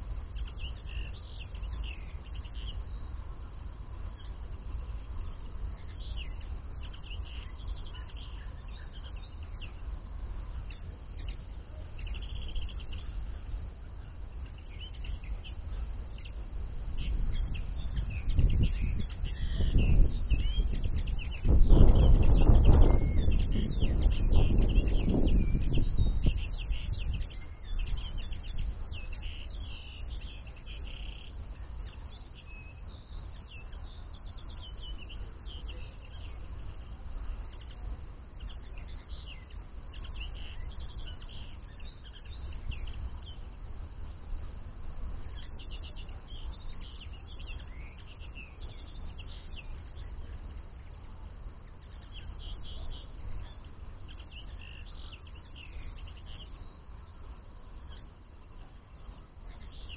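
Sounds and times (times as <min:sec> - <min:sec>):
linnets twittering: 0:00.0 - 0:59.9
steady low rumble: 0:00.0 - 0:59.9.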